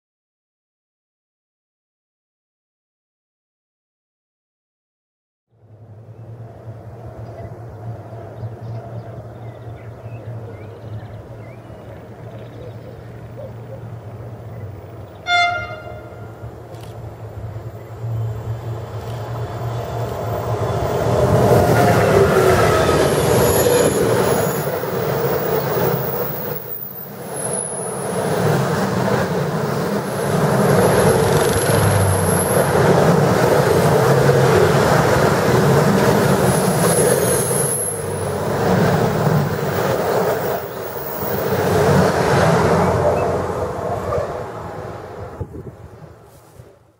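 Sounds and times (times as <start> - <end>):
freight train rumbling and rattling: 5.8 - 46.9.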